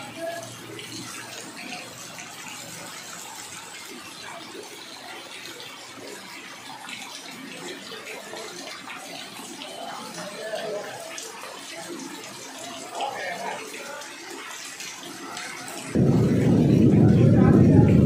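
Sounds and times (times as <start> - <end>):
rain falling on standing water: 0.0 - 18.0.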